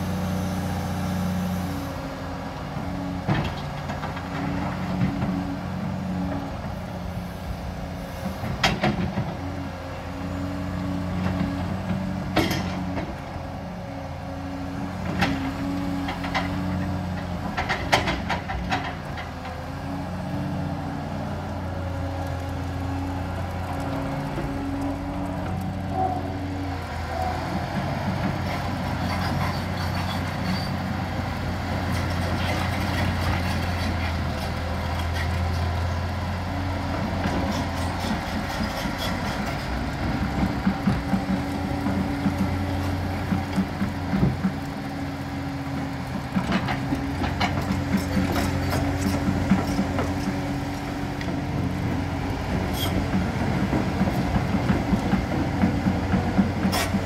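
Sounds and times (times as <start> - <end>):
excavator engine and hydraulics humming: 0.0 - 57.0.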